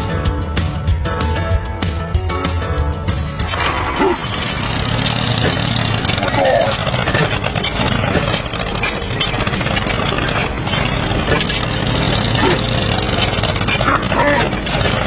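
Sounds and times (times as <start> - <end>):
engine idling: 0.0 - 2.1, 3.3 - 15.0.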